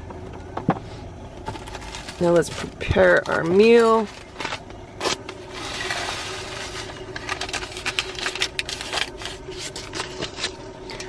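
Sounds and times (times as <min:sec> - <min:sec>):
faint steady hum: 0:00.0 - 0:11.0
packaging rustling: 0:01.4 - 0:11.0.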